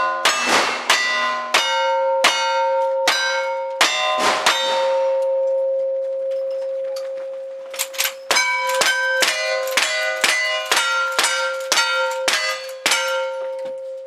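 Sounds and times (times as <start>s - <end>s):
steel targets clanging: 0.0s - 5.2s, 7.8s - 14.0s.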